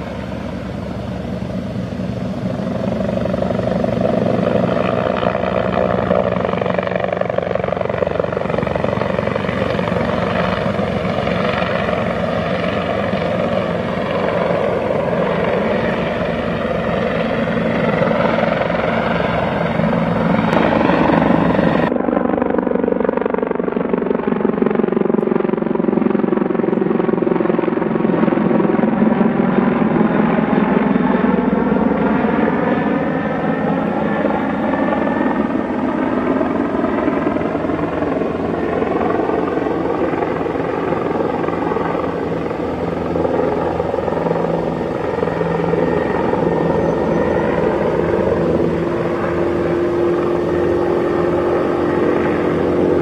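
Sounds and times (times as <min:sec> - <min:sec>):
helicopter flying past: 0:00.0 - 0:53.0.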